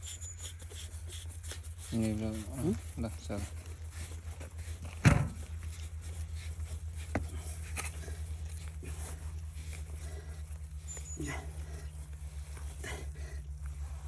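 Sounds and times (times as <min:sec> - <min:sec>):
low pulsing hum: 0:00.0 - 0:14.0.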